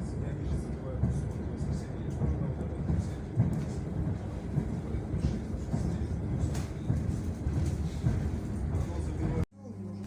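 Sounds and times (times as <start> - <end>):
electric train rumble: 0.0 - 9.4.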